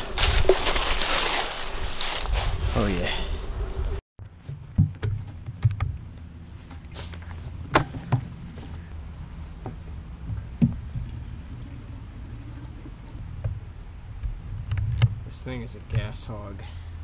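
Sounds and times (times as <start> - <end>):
steady low rumble: 2.5 - 17.0.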